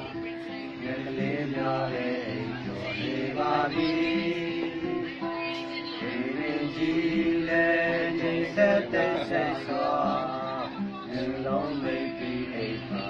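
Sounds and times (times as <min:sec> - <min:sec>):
acoustic guitar: 0:00.0 - 0:13.0
man singing pop song: 0:00.8 - 0:13.0.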